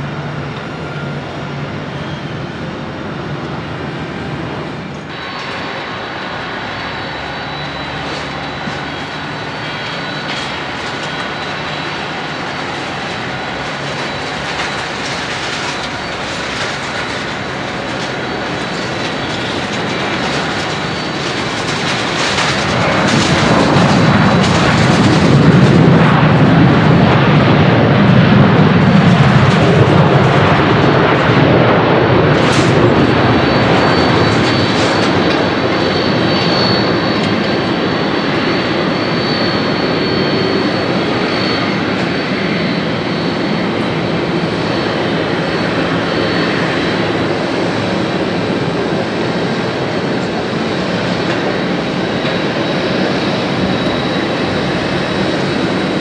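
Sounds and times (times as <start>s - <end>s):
jet airliner landing rollout: 0.0s - 56.0s.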